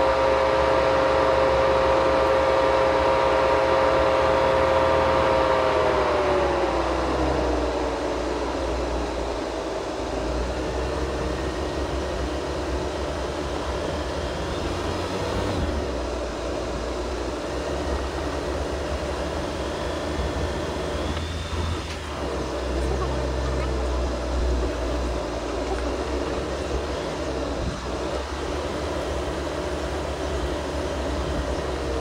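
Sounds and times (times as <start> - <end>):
car engine rumble: 0.0 - 32.0
pitched whine dropping: 0.0 - 32.0
drivetrain and trail hiss: 4.3 - 32.0.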